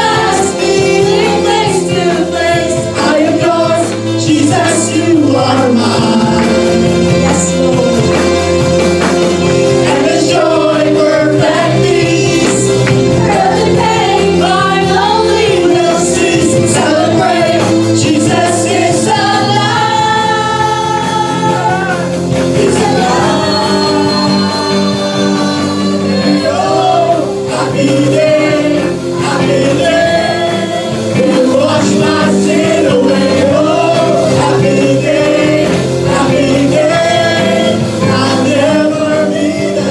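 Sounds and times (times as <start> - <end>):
instrumental backing: 0.0 - 39.9
voices singing gospel song: 0.0 - 39.9.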